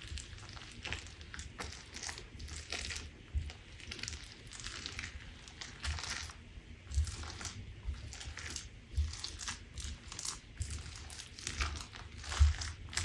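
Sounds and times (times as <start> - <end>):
slime crunching and crackling: 0.0 - 13.0.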